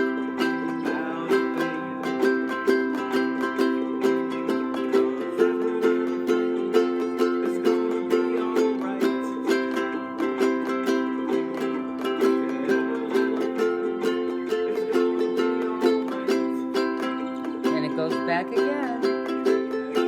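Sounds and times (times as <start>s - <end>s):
ukulele strumming: 0.0s - 20.0s.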